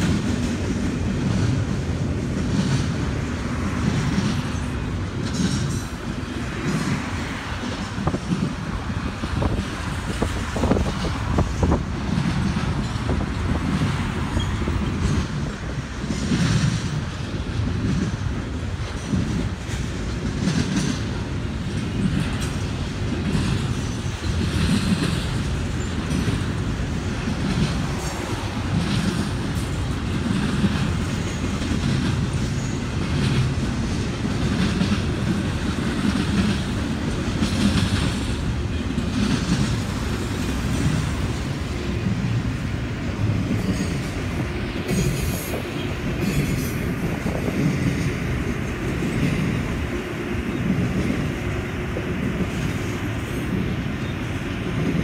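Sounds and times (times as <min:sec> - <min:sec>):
train rumbling past: 0:00.0 - 0:55.0
train wheels clacking: 0:00.0 - 0:55.0.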